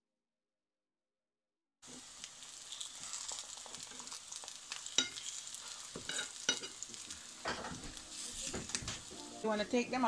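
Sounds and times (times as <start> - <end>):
slices sizzling in a frying pan: 1.8 - 10.0.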